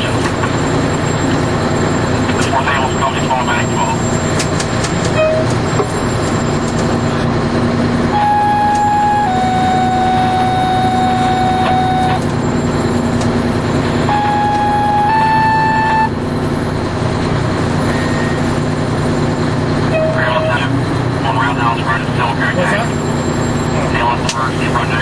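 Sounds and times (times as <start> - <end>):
truck engine running: 0.0 - 25.0
whine shifting pitch: 0.0 - 25.0.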